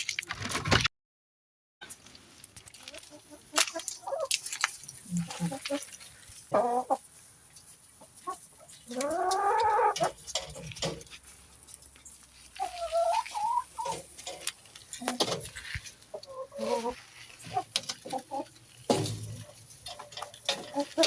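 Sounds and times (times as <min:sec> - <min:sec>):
chickens clucking: 0:02.6 - 0:21.0.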